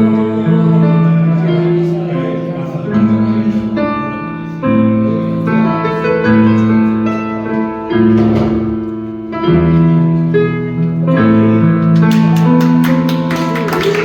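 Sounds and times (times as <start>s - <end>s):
piano playing slow chords: 0.0s - 14.0s.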